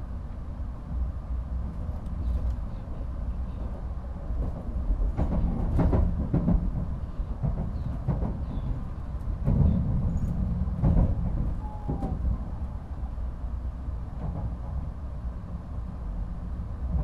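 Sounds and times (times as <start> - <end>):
train running low rumble: 0.0 - 17.0.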